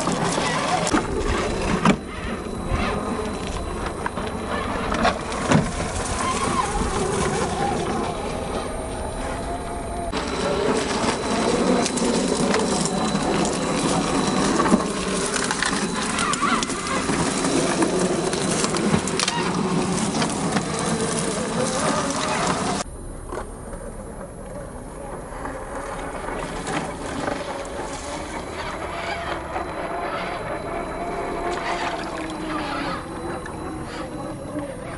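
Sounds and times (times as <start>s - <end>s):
toy truck motor whirring: 0.0s - 22.8s, 25.0s - 34.9s
tyres crunching branches: 0.0s - 22.8s, 24.6s - 34.9s.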